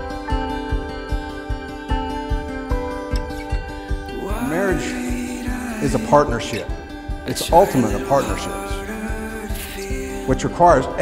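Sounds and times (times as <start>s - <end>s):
held melodic notes: 0.0s - 11.0s
music with steady beat: 0.0s - 11.0s.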